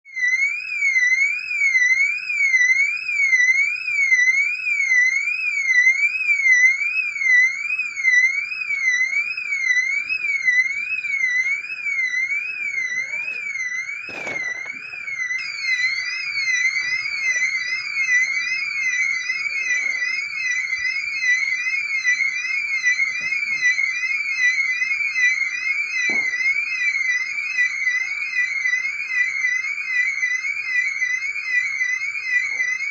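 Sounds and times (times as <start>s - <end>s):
warbling electronic alarm siren: 0.0s - 32.9s.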